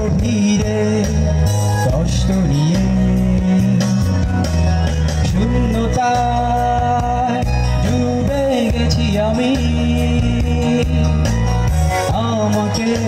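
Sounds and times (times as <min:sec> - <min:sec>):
music with singing: 0:00.0 - 0:13.0.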